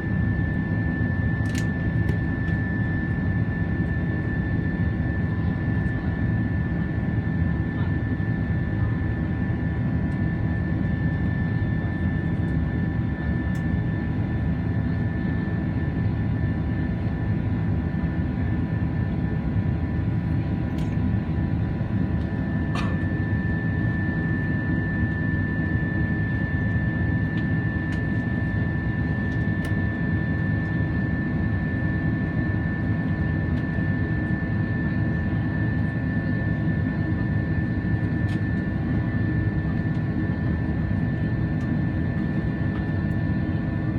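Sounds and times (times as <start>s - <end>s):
jet engine rumble in cabin: 0.0s - 43.9s.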